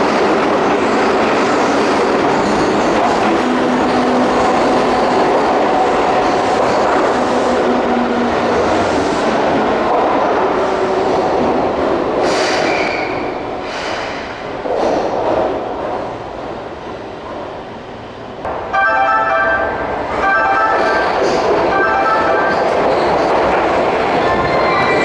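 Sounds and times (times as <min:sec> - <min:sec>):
train wheels on rails: 0:00.0 - 0:18.8, 0:19.9 - 0:25.0.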